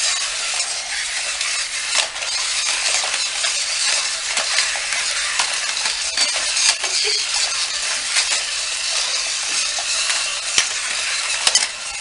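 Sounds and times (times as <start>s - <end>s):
toy motors whirring: 0.0s - 12.0s
plastic clicks and clacks: 1.4s - 11.9s.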